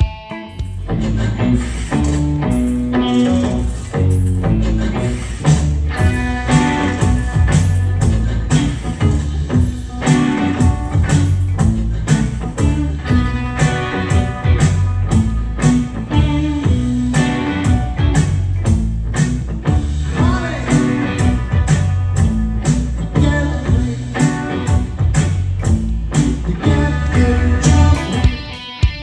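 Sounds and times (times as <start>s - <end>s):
guitar band music: 0.0s - 29.0s
steady drum beat: 3.6s - 29.0s.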